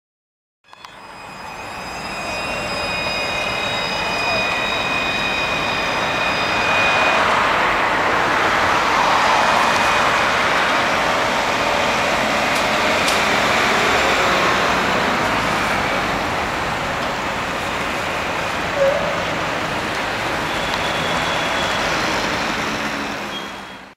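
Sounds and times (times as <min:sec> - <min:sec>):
city traffic noise: 0:00.7 - 0:23.9
tram motor whine: 0:00.7 - 0:23.9
tram pulling away: 0:00.7 - 0:23.9.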